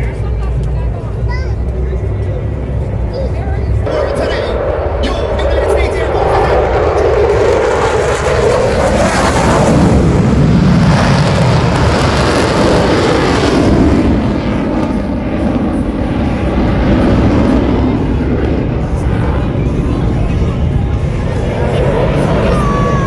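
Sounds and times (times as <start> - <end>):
jet aircraft engine roar: 0.0 - 23.0.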